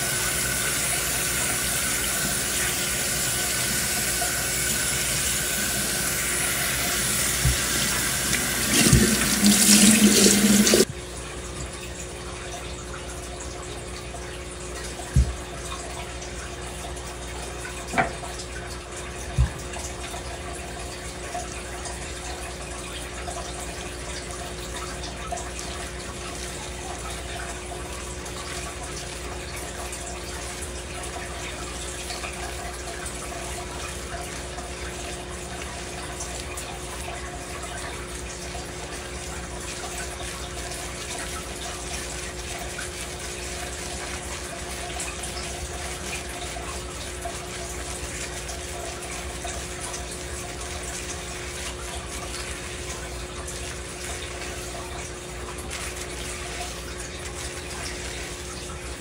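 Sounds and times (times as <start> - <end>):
tap water running into metal sink: 0.0 - 59.0.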